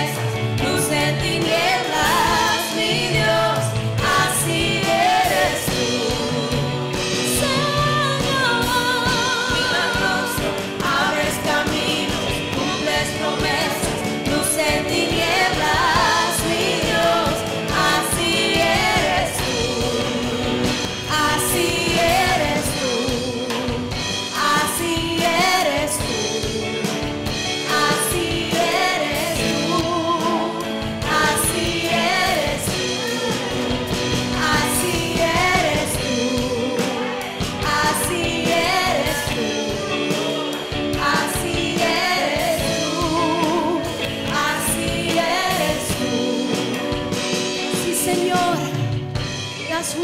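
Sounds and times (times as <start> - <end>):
band playing: 0.0 - 50.0
drum and cymbal hits: 0.0 - 50.0
person singing with vibrato: 0.0 - 50.0.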